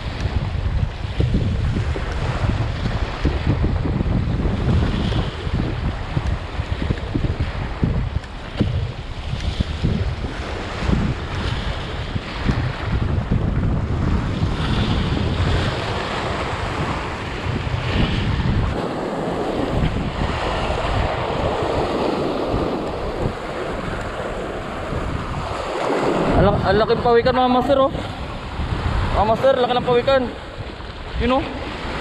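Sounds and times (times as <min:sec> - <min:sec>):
waves breaking over rocks: 0:00.0 - 0:32.0
wind buffeting microphone: 0:00.0 - 0:32.0.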